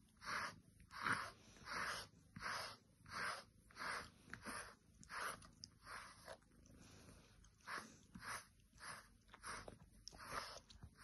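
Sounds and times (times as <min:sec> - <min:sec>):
brush swishing through cat fur: 0:00.0 - 0:11.0.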